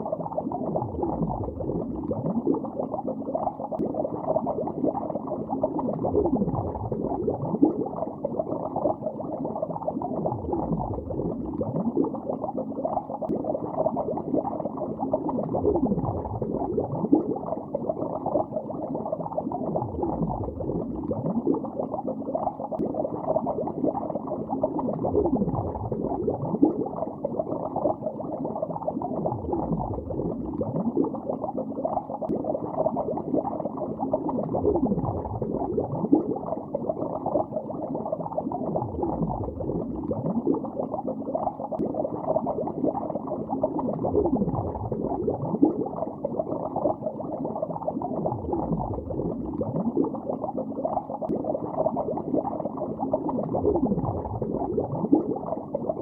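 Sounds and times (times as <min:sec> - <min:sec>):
underwater bubbling: 0:00.0 - 0:56.0.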